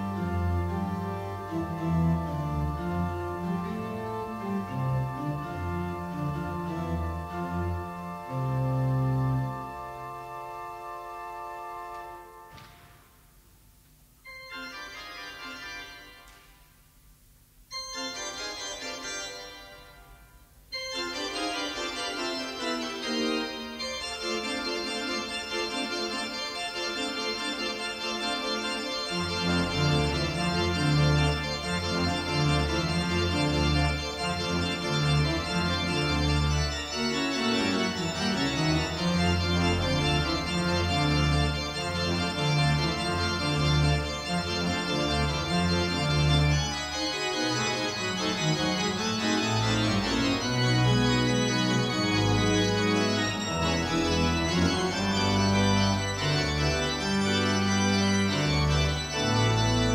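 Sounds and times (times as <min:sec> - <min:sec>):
deep organ pedal bass: 0:00.0 - 0:12.5, 0:20.8 - 0:59.9
pipe organ chords: 0:00.0 - 0:13.5, 0:14.1 - 0:16.9, 0:17.6 - 0:59.9.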